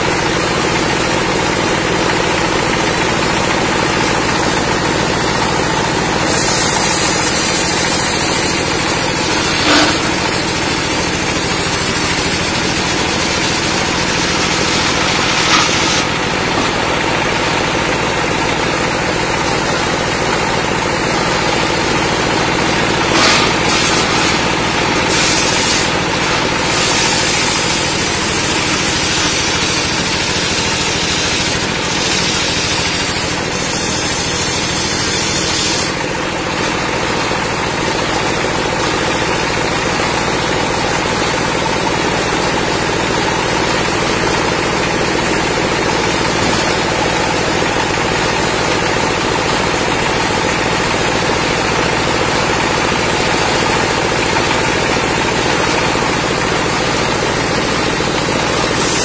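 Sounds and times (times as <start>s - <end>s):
circular saw running without load: 0.0s - 59.0s
circular saw cutting wood: 2.3s - 37.3s, 42.2s - 59.0s.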